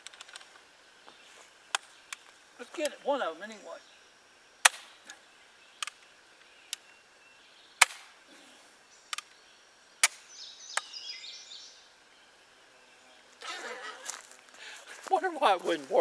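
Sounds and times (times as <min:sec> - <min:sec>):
faint bird chirps: 0:00.8 - 0:14.1.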